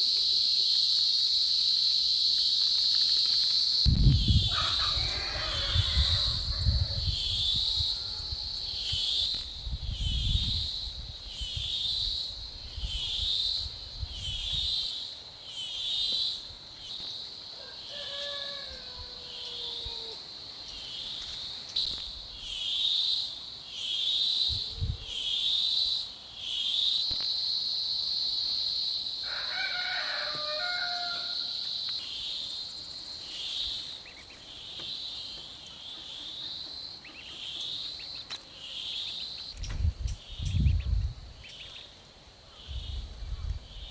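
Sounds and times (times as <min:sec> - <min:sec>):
insect chorus shrilling: 0:00.0 - 0:43.9.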